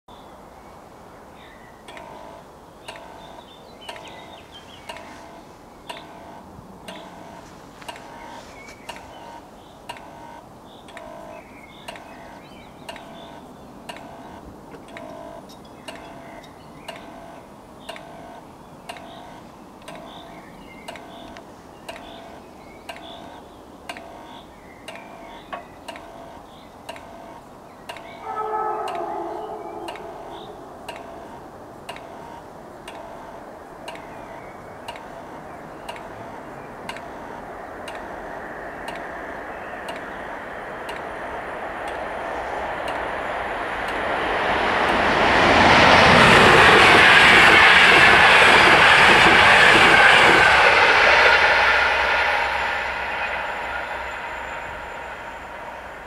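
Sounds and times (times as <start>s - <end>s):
level crossing warning bells: 1.8s - 56.0s.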